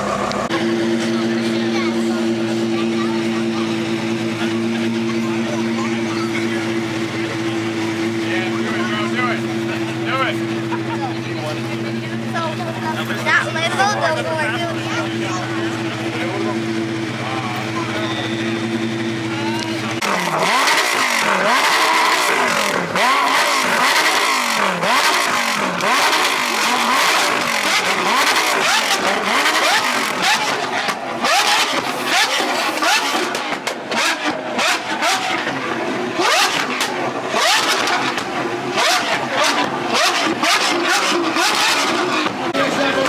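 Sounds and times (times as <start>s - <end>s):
engines revving: 0.0s - 43.0s.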